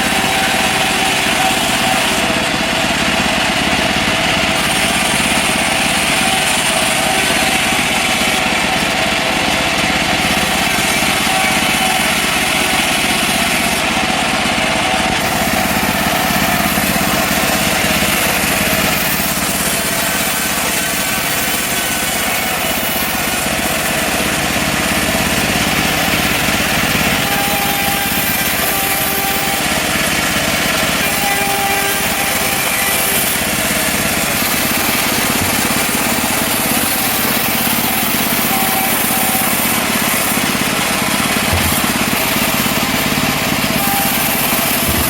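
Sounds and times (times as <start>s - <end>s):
small petrol engine running: 0.0s - 45.0s.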